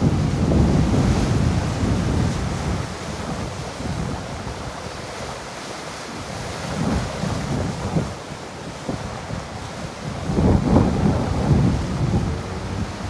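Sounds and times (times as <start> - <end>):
surf breaking against seawall: 0.0 - 13.0
wind buffeting microphone: 0.0 - 13.0.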